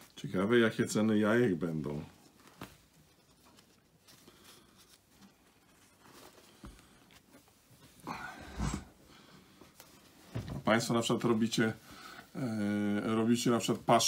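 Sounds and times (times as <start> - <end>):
paper napkins rustling: 0.0 - 14.0.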